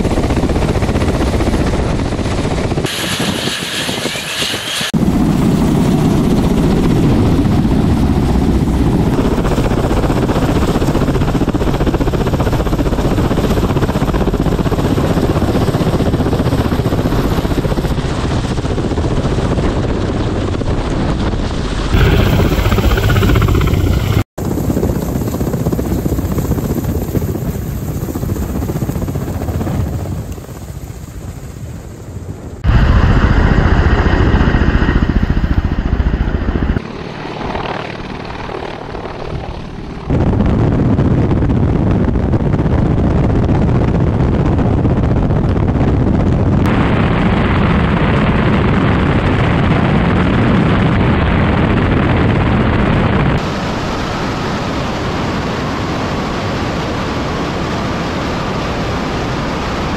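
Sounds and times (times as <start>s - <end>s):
helicopter rotors and engines: 0.0s - 59.9s.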